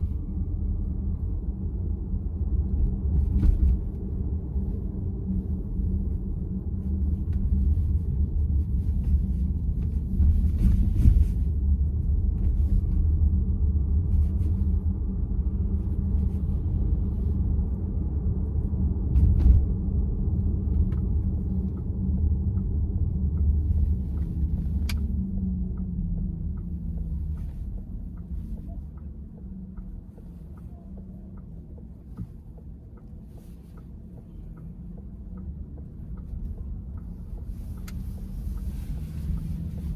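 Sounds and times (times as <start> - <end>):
road rumble inside car: 0.0 - 39.9.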